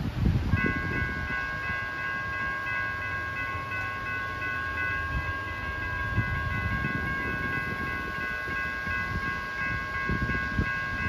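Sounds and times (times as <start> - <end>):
wind rumble on microphone: 0.0 - 3.7, 4.8 - 11.0
railroad crossing bell ringing: 0.0 - 11.0.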